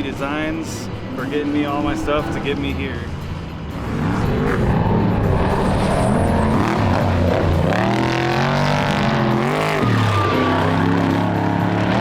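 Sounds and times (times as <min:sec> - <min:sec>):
race vehicle engine revving: 0:00.9 - 0:12.0.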